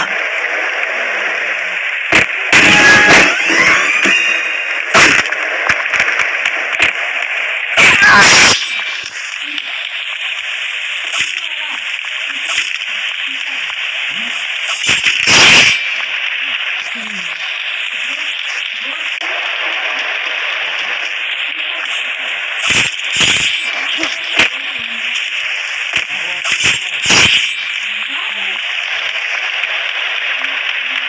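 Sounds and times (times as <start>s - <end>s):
crackling bursts: 0.0s - 31.0s
loud static hiss: 0.0s - 31.0s.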